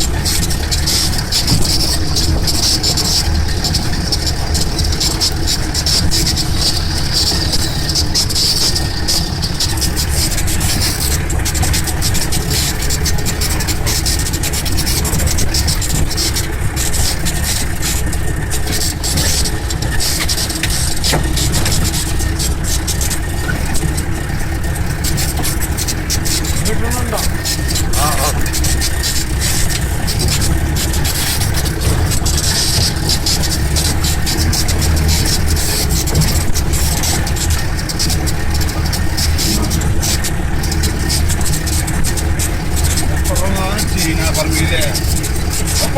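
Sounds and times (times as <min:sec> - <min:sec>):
vehicle engine running: 0:00.0 - 0:45.9
vehicle rattles and knocks: 0:00.0 - 0:45.9.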